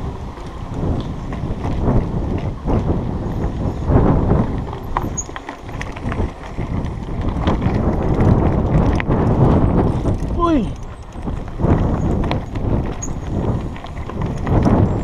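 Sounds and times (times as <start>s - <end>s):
mountain bike rattling: 0.0s - 15.0s
tyre rumble: 0.0s - 15.0s.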